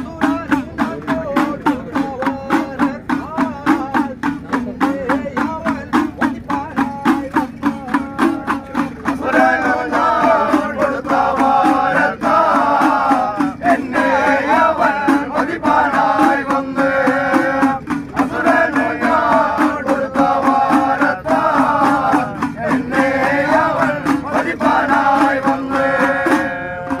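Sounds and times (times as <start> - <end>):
hand drums beating: 0.0 - 27.0
men singing in chorus: 0.0 - 27.0.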